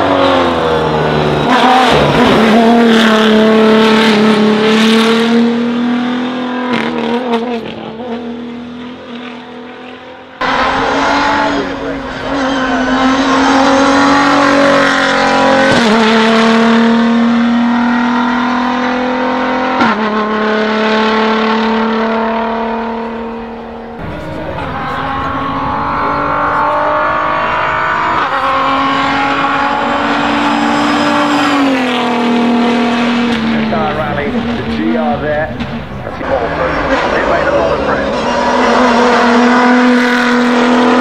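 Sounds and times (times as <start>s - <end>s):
rally truck engine at high revs: 0.0s - 41.0s.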